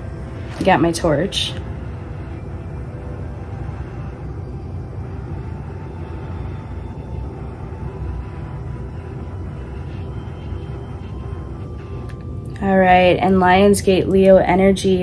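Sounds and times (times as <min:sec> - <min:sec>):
torch lighter flame rushing: 0:00.0 - 0:12.2.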